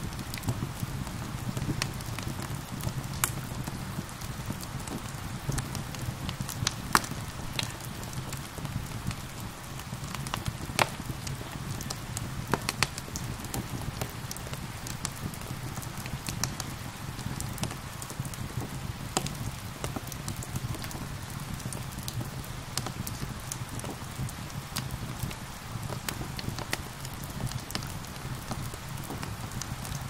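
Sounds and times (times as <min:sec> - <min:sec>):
gentle rain: 0:00.0 - 0:30.0
wood fire crackling and popping: 0:00.0 - 0:30.0.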